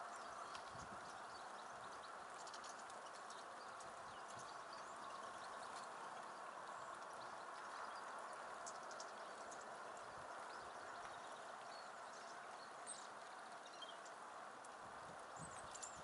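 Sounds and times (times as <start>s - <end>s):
goldfinches chirping: 0.0s - 14.3s, 15.3s - 16.0s
steady background hiss: 0.0s - 16.0s.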